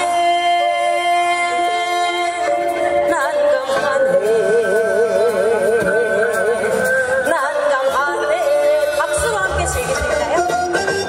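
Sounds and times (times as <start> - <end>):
woman singing with vibrato: 0.0 - 10.8
backing track over loudspeakers: 0.0 - 11.0.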